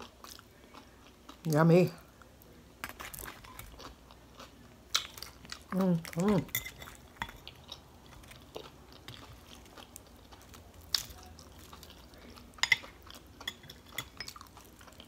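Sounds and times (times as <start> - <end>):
person chewing food: 0.0 - 1.5, 2.1 - 15.0.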